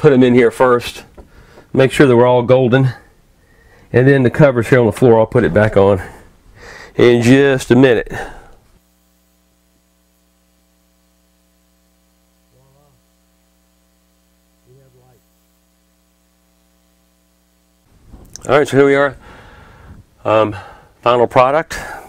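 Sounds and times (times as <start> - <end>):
faint mains hum: 0.0 - 22.0.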